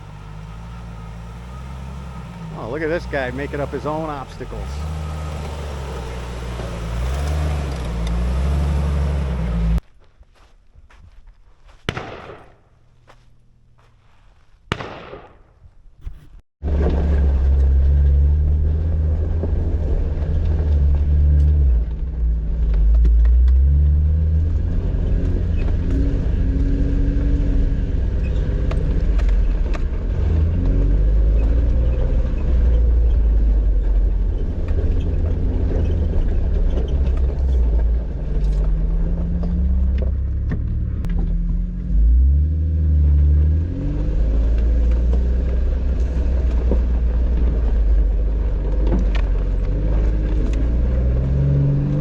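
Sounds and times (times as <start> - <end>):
off-road vehicle engine rumbling: 0.0 - 10.5, 12.6 - 14.8, 16.0 - 52.0.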